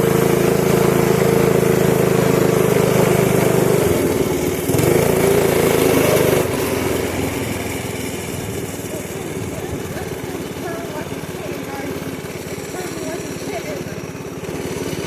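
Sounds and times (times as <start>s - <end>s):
pit bike engine running: 0.0s - 15.0s.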